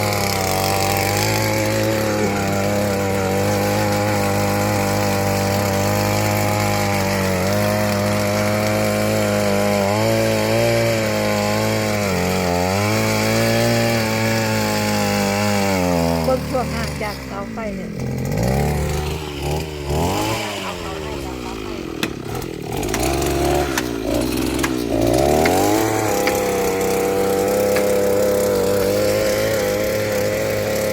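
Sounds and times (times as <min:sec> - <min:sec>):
small engine running: 0:00.0 - 0:30.9.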